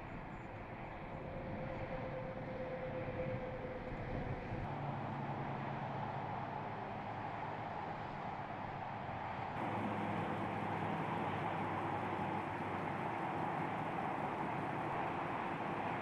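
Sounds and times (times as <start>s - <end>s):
steady rushing noise: 1.9s - 16.0s.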